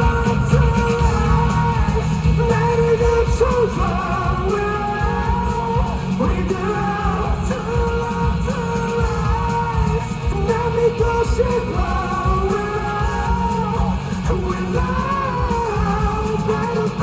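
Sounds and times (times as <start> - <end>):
amplified band drums and bass: 0.0 - 17.0
man singing with vibrato: 0.0 - 17.0.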